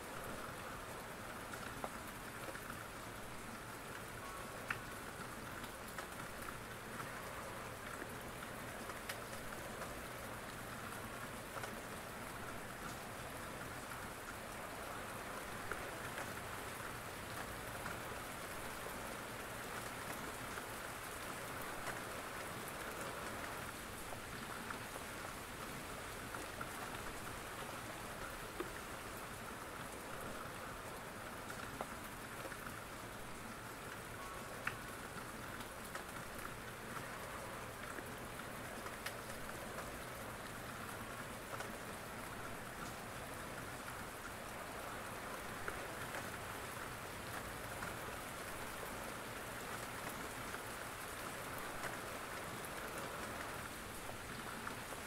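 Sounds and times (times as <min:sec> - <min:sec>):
rain falling: 0:00.0 - 0:55.0
faint ticks: 0:01.4 - 0:20.7, 0:21.5 - 0:30.6, 0:31.4 - 0:55.0.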